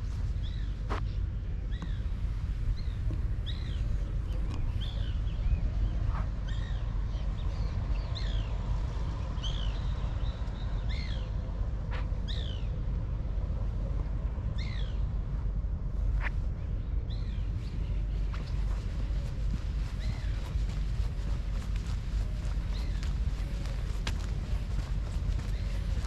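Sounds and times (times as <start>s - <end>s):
birds chirping: 0.0s - 15.2s, 15.9s - 26.0s
low rumble: 0.0s - 26.0s.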